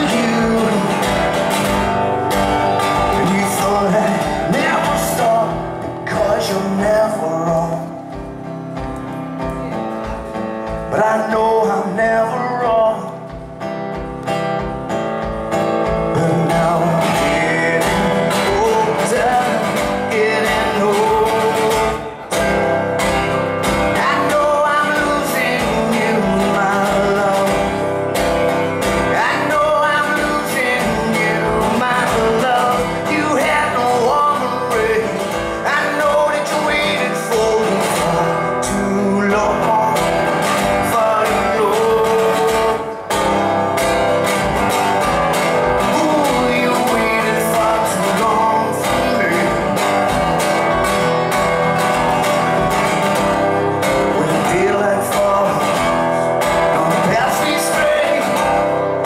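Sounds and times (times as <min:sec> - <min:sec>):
man singing: 0:00.0 - 0:59.0
strummed acoustic guitar: 0:00.0 - 0:59.0.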